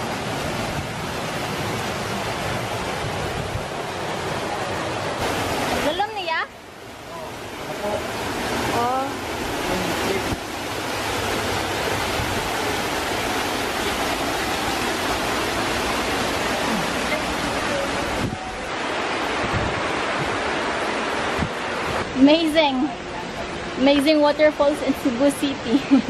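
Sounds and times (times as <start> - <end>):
waterfall pouring: 0.0 - 24.0.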